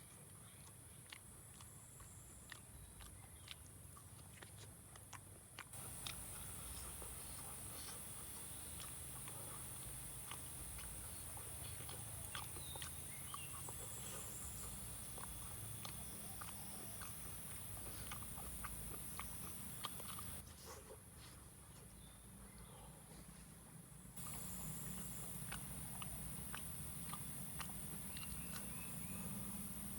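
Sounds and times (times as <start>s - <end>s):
chewing with mouth clicks: 0.0s - 20.5s, 24.2s - 29.9s.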